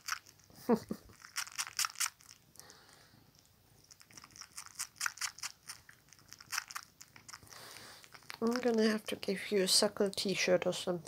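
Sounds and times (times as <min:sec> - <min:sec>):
kitten suckling and smacking: 0:00.0 - 0:09.5.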